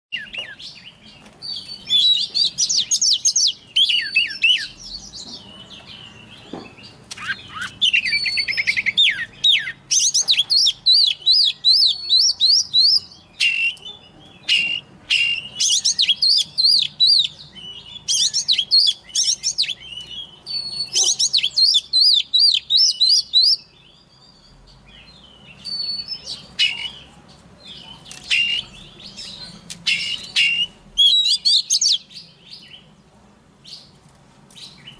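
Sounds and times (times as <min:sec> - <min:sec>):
bird singing high trills: 0:00.1 - 0:32.8.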